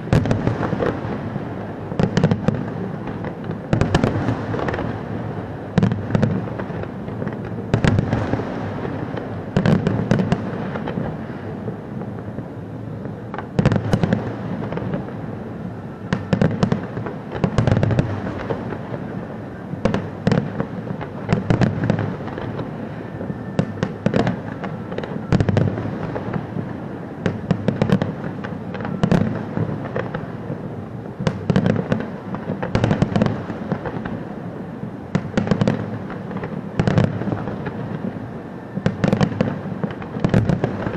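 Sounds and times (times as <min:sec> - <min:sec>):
firework booms: 0:00.0 - 0:15.5, 0:16.1 - 0:40.9
fireworks crackling and popping: 0:00.0 - 0:40.9.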